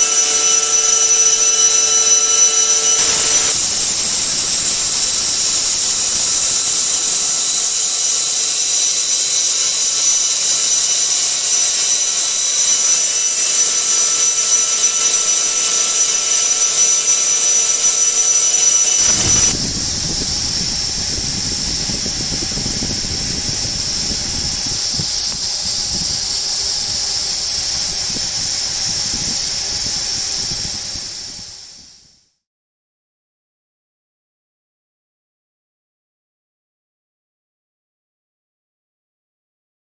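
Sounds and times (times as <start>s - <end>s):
mill whining with hiss: 0.0s - 32.0s.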